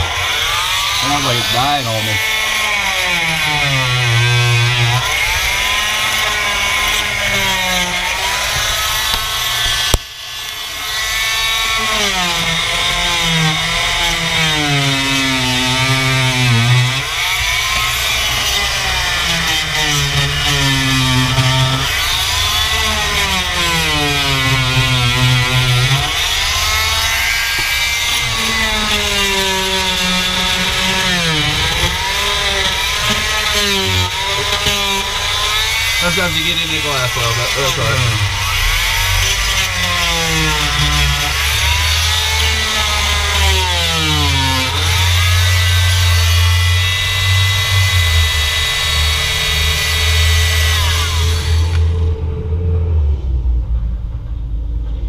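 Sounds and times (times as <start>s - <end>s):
oscillating multi-tool motor: 0.0s - 52.1s.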